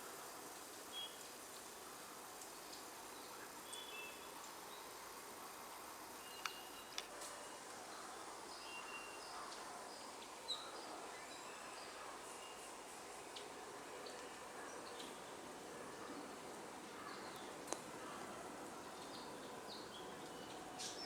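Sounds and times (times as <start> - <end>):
faint background hiss: 0.0 - 21.0.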